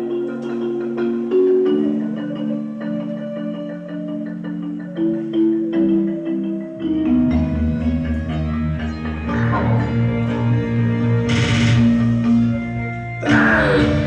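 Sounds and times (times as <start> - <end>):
mallet-like instrumental notes: 0.0 - 14.0.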